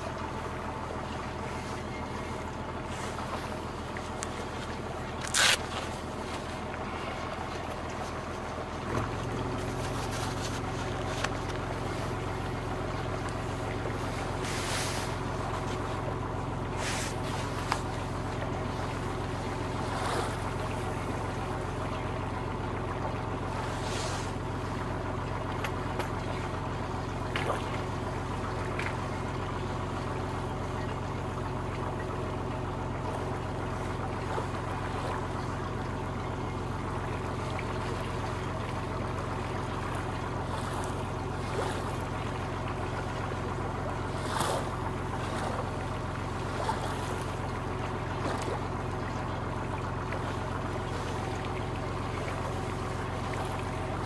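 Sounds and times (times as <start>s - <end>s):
boat engine running: 0.0s - 54.0s
water swishing against hull: 0.0s - 54.0s.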